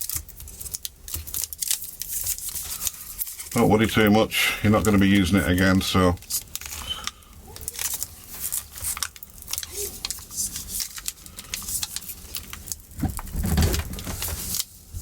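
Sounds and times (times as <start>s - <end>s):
adhesive crackling and tearing: 0.0s - 3.6s, 6.2s - 14.8s.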